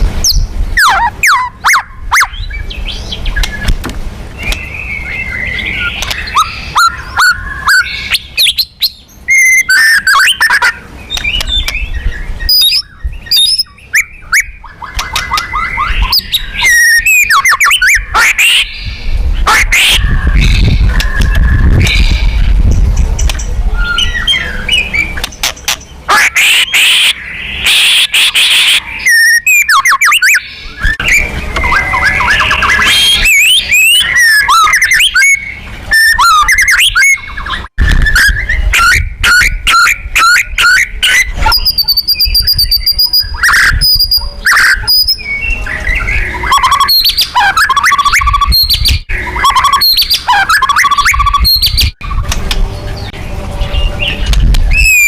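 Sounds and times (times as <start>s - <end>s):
songbird singing whistles and trills: 0.2s - 22.5s, 23.2s - 55.0s.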